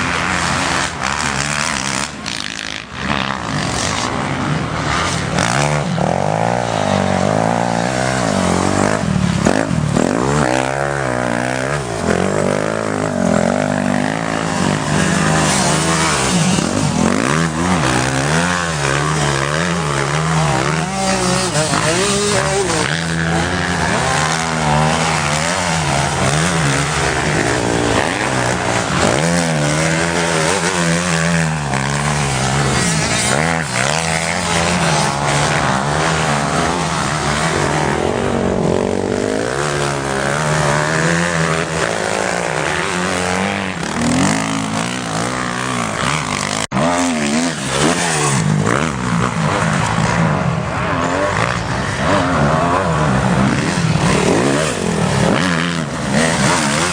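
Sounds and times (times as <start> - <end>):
motocross motorcycles revving: 0.0 - 56.9.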